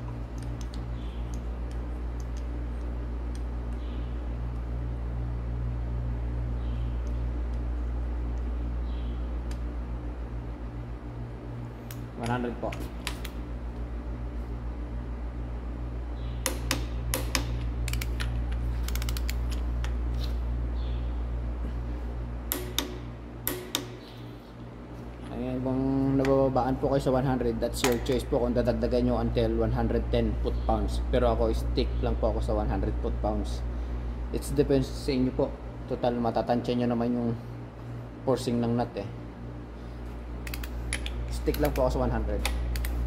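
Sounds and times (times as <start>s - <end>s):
low hum: 0.0s - 36.7s.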